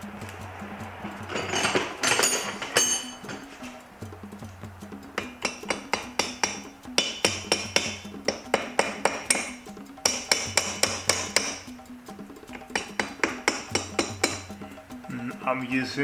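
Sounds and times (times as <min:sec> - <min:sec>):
rubber mallet tapping metal: 0:00.0 - 0:15.4.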